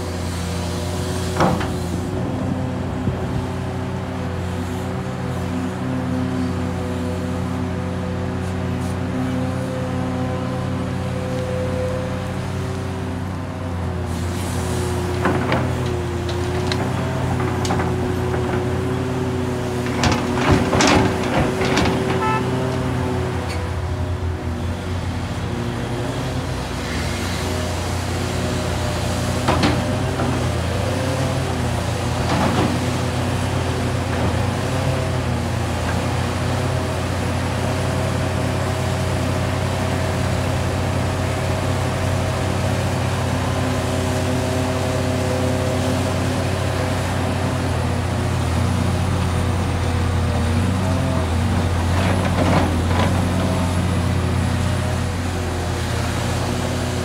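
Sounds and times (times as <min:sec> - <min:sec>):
diesel engine whining under load: 0:00.0 - 0:57.0.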